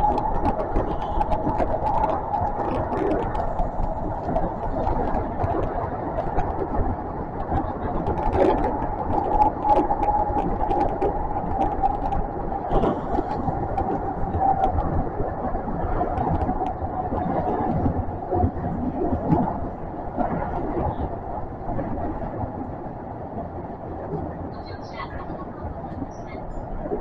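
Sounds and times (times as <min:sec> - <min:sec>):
train rumble in tunnel: 0:00.0 - 0:27.0.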